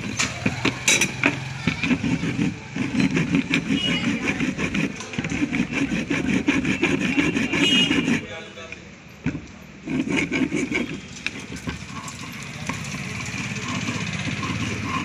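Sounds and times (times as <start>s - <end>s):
wire brush scraping metal: 0.0s - 8.4s, 9.9s - 15.0s
file rasping on battery post: 0.0s - 15.0s.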